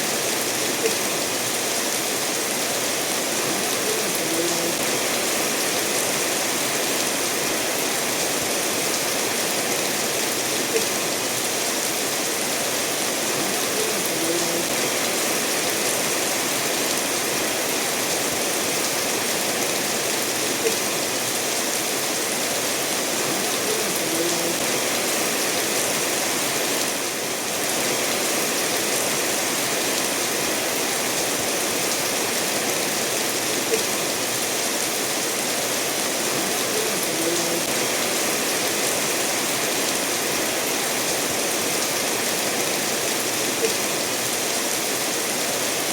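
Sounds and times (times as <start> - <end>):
rain falling: 0.0 - 45.9
stream running over stones: 0.0 - 45.9.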